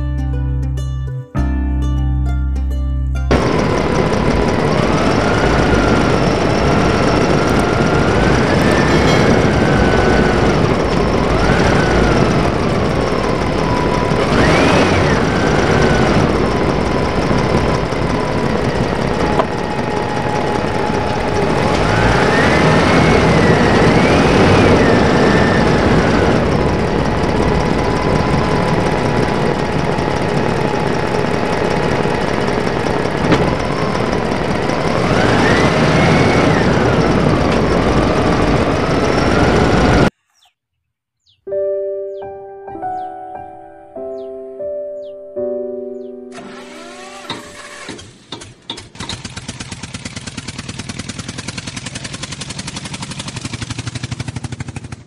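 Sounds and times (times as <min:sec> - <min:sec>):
vehicle engine revving: 0:03.3 - 0:40.5, 0:46.3 - 0:55.0.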